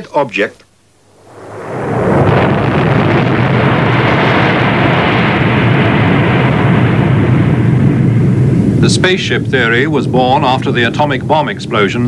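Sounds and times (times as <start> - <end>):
explosion rumble: 0.9 - 12.0.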